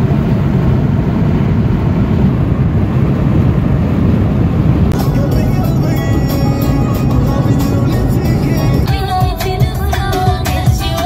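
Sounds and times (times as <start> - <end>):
road and tyre rumble in car: 0.0 - 11.0.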